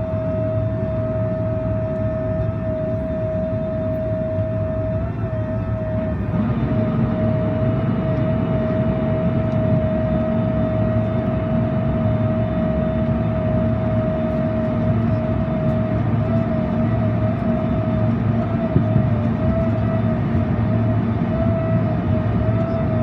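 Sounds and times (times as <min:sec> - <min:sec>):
jet engine whine: 0:00.0 - 0:23.0
low engine rumble: 0:00.0 - 0:23.0.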